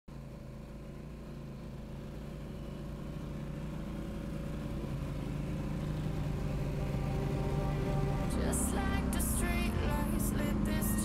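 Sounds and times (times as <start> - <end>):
atv engine running: 0.1 - 11.0.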